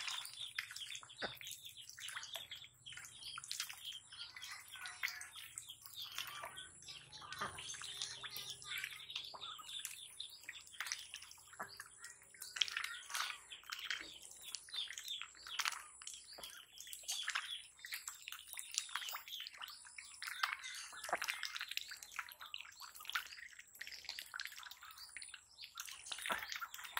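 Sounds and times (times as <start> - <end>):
ducks dabbling in water: 0.0 - 26.9.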